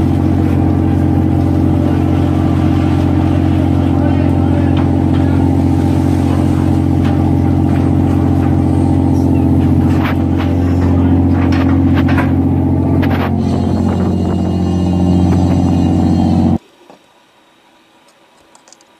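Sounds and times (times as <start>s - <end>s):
boat engine droning: 0.0s - 16.6s.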